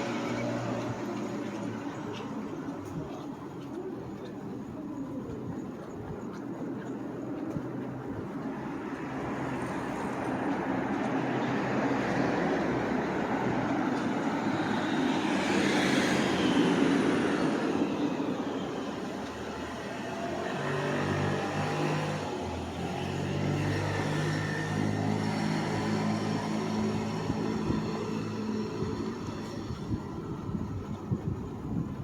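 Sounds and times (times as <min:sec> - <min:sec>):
steady hum of street noise: 0:00.0 - 0:32.0.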